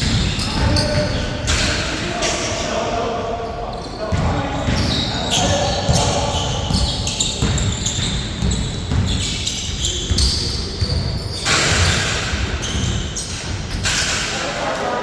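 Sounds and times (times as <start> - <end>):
basketballs bouncing: 0.0 - 2.0, 3.9 - 14.7.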